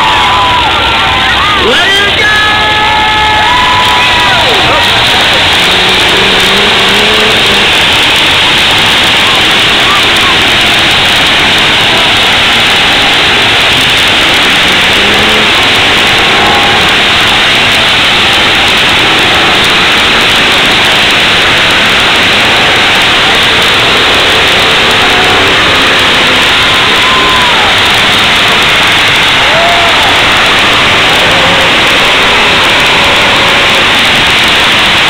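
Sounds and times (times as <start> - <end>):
many car engines revving: 0.0 - 35.0.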